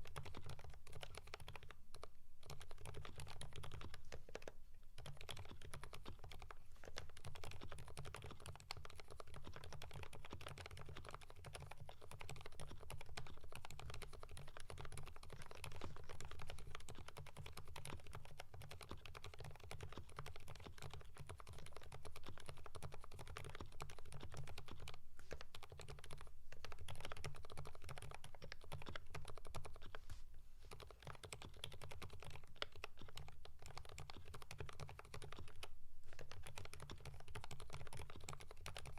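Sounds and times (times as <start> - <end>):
muted mechanical keyboard typing: 0.0 - 30.0, 30.7 - 38.9.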